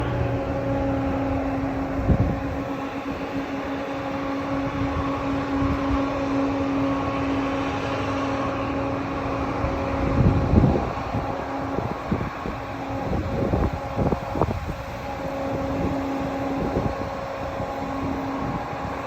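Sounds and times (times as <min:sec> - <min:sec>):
steady mechanical hum: 0:00.0 - 0:19.0
wind noise on microphone: 0:00.0 - 0:19.0.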